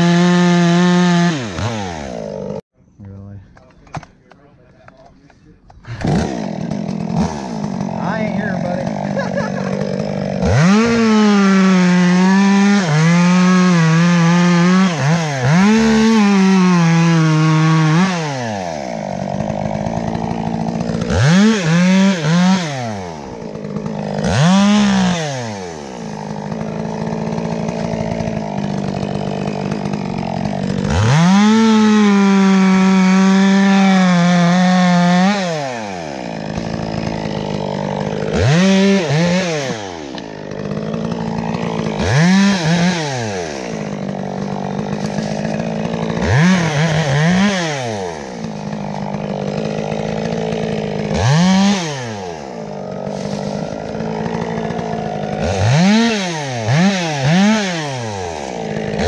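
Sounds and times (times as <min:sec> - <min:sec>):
chainsaw revving and idling: 0:00.0 - 0:02.7, 0:03.5 - 0:59.0.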